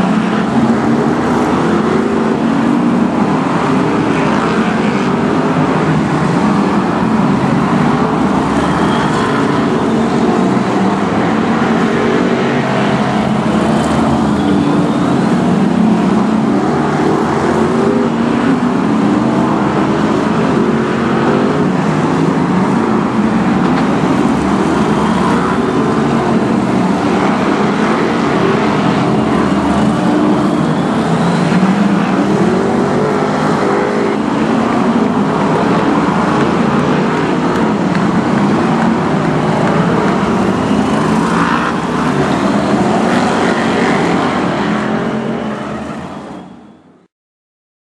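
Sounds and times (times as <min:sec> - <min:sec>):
race car engines running hard: 0:00.0 - 0:46.7.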